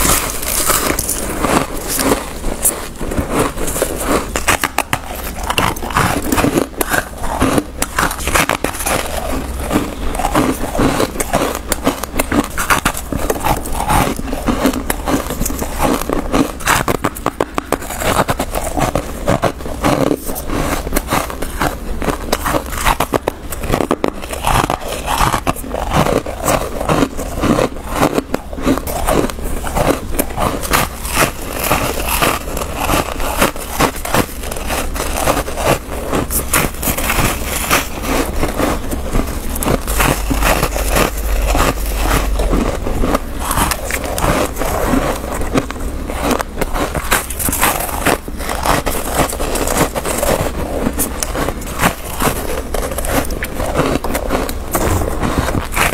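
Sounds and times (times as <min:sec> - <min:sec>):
crunching and chewing frost: 0:00.0 - 0:55.9.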